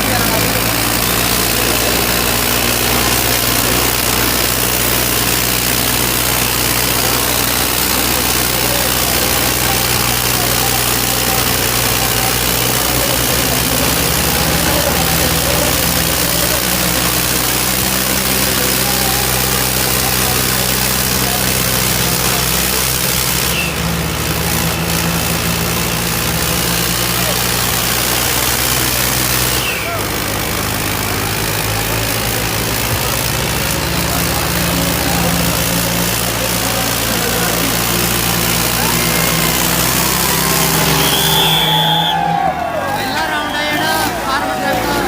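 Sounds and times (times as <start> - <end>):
diesel tractor engine running: 0.0 - 45.0.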